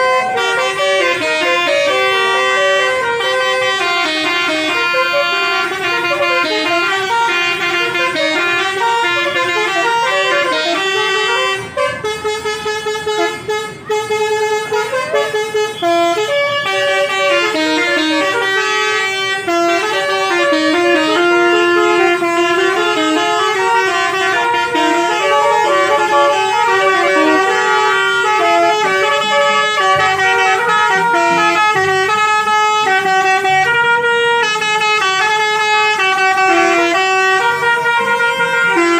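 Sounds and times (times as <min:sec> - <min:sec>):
bus musical horn melody: 0:00.0 - 0:38.9.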